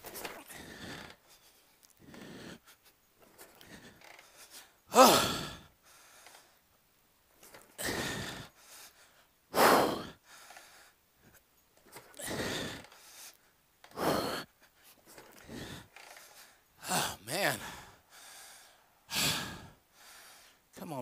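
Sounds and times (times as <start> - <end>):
man breathing out hard: 0.1 - 2.8, 3.5 - 6.6, 7.8 - 11.0, 12.2 - 14.5, 15.2 - 20.6.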